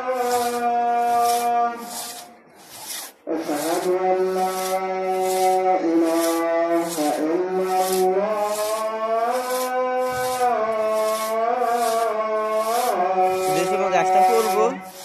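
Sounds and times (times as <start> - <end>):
crosscut saw rasping through wood: 0.0 - 15.0.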